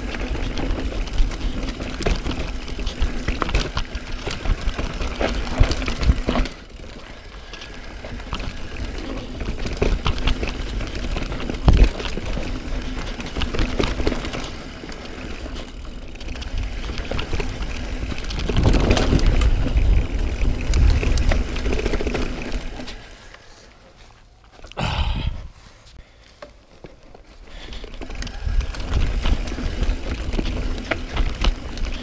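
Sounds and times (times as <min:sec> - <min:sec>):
mountain bike rattling on dirt: 0:00.0 - 0:24.7, 0:26.4 - 0:32.0.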